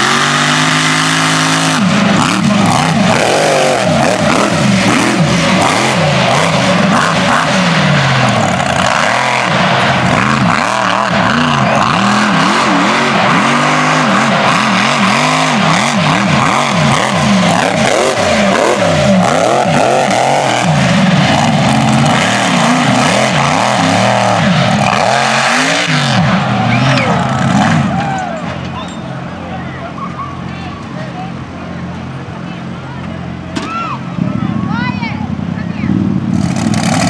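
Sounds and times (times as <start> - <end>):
truck engine revving: 0.0 - 34.2, 35.3 - 37.0.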